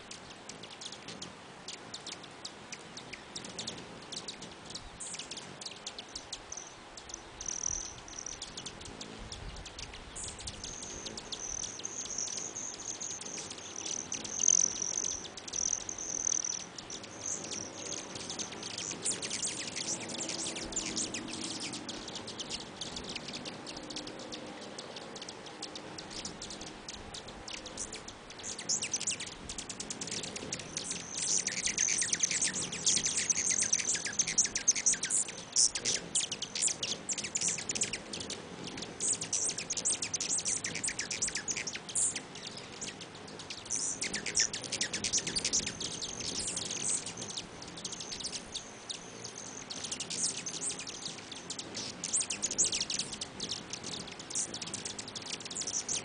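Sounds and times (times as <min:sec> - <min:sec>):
hummingbirds chattering: 0:00.0 - 0:56.0.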